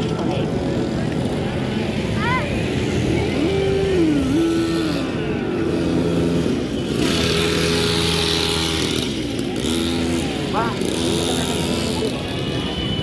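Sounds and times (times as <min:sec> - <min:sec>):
small engines droning: 0:00.0 - 0:13.0.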